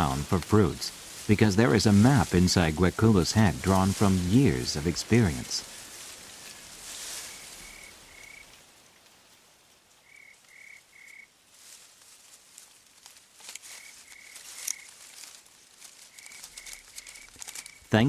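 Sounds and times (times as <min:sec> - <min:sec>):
branches rustling and snapping: 0:00.0 - 0:18.0.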